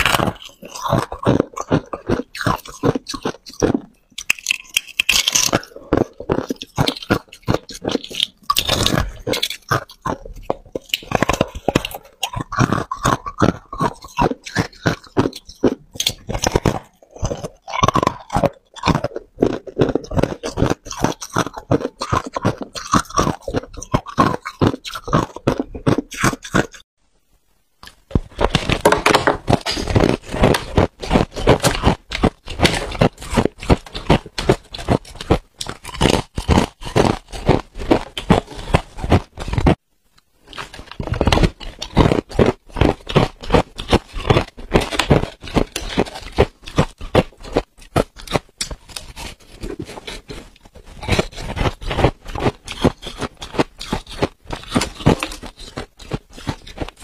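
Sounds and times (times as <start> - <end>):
chewing and crunching ice: 0.0 - 26.9, 27.8 - 39.8, 40.4 - 57.0.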